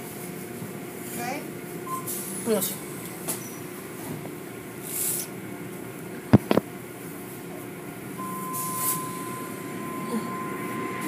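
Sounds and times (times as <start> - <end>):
car wash machinery hum: 0.0 - 11.0.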